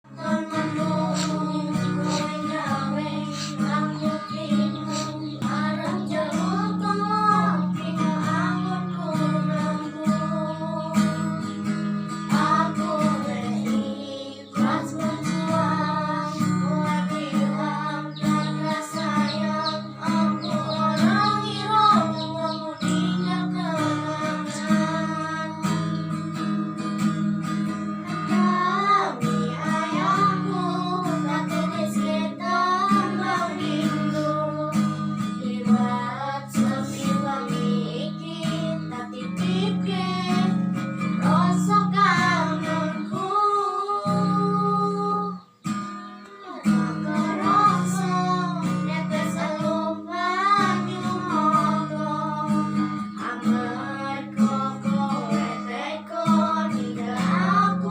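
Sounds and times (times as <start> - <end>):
woman singing: 0.0 - 26.9, 27.6 - 57.9
instrumental accompaniment: 0.0 - 57.9.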